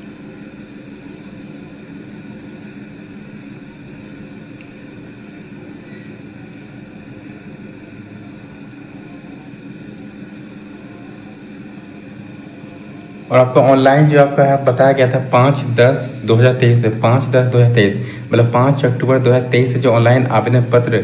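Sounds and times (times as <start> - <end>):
room noise hiss and hum: 0.0 - 21.0.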